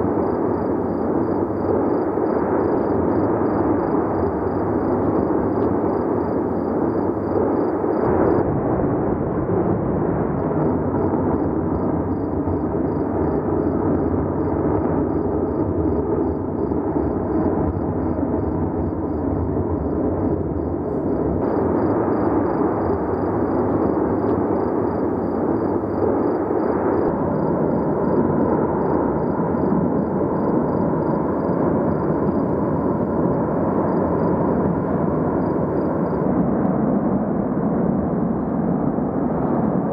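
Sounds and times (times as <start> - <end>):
volcano rumbling: 0.0 - 39.9.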